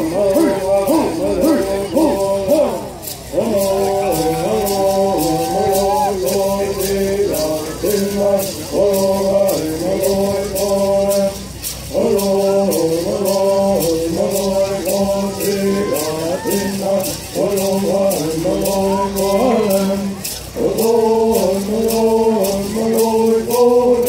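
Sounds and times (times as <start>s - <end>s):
gourd rattles shaking: 0.0s - 24.0s
men singing in unison: 0.0s - 24.0s.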